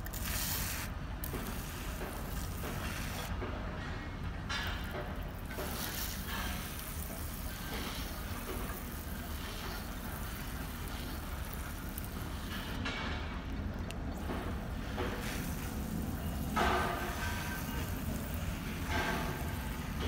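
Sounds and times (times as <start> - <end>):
pressure sprayer hissing: 0.0 - 3.3, 5.5 - 12.7, 14.2 - 20.0.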